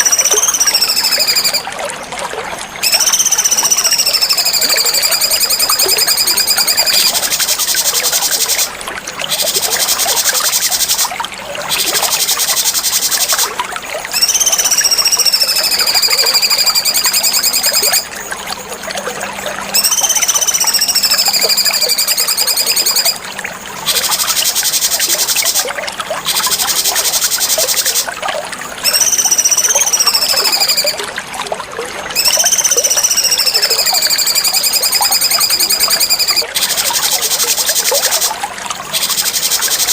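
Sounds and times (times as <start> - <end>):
songbird singing trills and whistles: 0.0 - 1.7, 2.8 - 18.7, 19.7 - 23.2, 23.8 - 28.1, 28.8 - 31.0, 32.1 - 39.9
steady hiss like trickling water: 0.0 - 39.9.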